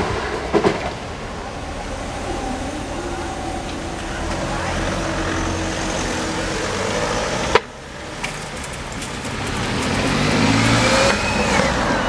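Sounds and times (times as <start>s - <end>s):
car engine passing: 0.0s - 12.0s
crossing barriers humming: 0.0s - 12.0s.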